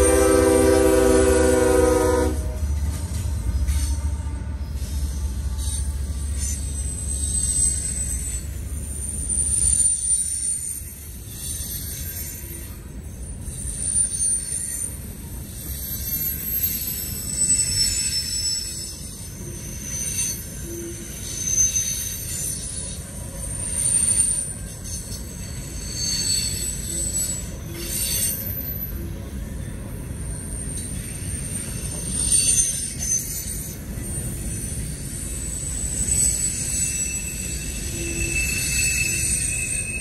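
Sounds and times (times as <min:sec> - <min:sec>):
freight train wheels rumbling: 0:00.0 - 0:40.0
high-pitched wheel squeals: 0:00.0 - 0:40.0.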